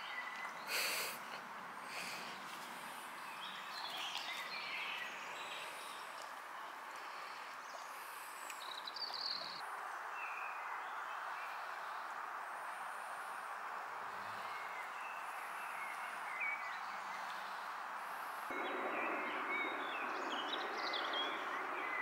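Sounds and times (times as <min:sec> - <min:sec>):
birds chirping: 0:00.0 - 0:12.6, 0:14.1 - 0:22.0
outdoor background hiss: 0:00.0 - 0:22.0.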